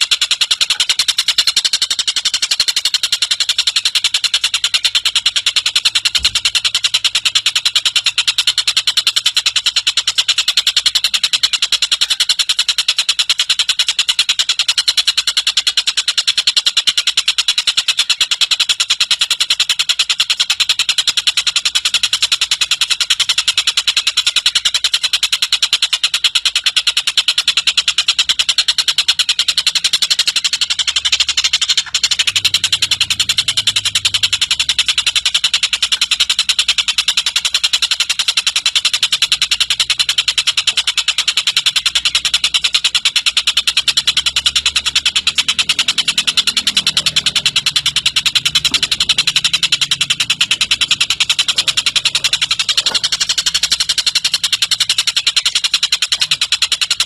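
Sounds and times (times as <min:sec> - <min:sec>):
kingfisher rapid chattering call: 0:00.0 - 0:57.0.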